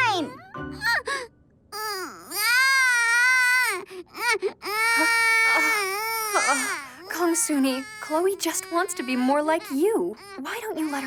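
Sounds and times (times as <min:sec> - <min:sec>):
toddler crying: 0:01.8 - 0:11.0.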